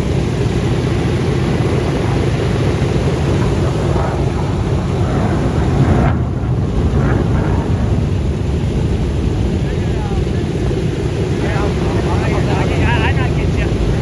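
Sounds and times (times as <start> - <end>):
aircraft piston engines rumbling: 0.0 - 14.0
wind buffeting microphone: 0.0 - 14.0.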